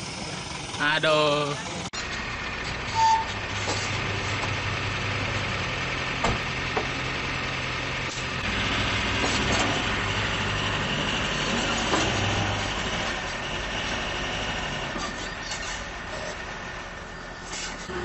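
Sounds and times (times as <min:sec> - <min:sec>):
diesel truck engine: 0:00.0 - 0:18.0.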